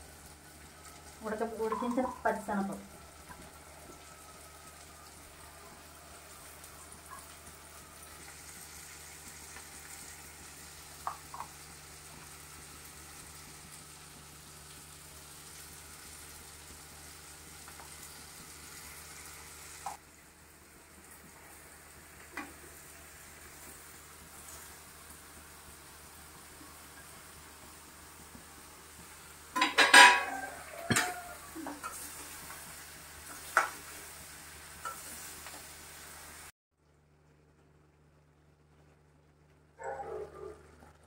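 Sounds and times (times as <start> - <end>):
food sizzling in oil: 0.0 - 36.5.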